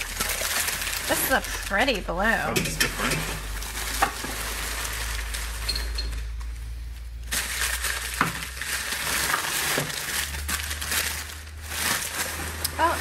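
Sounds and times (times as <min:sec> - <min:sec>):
wrapping crinkling: 0:00.0 - 0:13.0.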